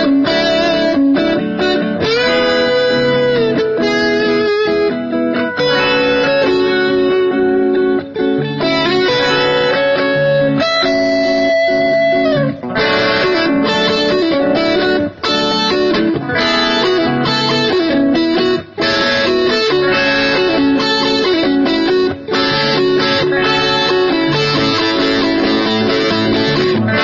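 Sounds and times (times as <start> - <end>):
electric guitar with delay: 0.0 - 27.0.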